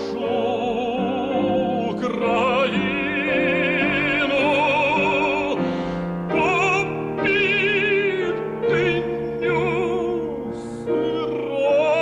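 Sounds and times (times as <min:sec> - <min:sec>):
instrumental accompaniment: 0:00.0 - 0:12.0
operatic tenor singing: 0:00.0 - 0:12.0.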